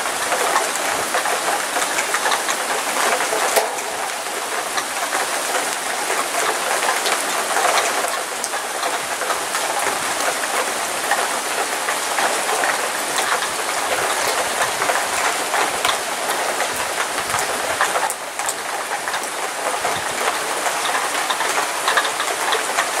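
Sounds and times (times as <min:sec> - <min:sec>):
heavy rain downpour: 0:00.0 - 0:23.0.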